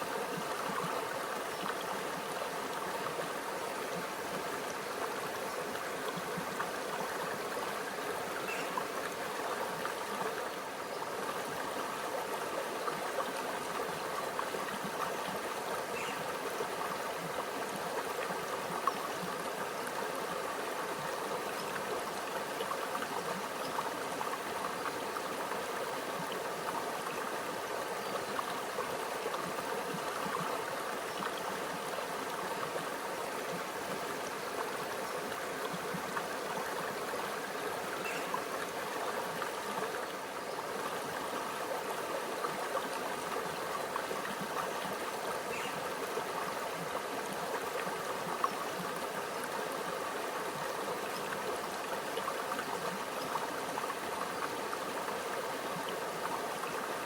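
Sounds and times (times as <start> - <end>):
stream trickling over rocks: 0.0 - 57.0.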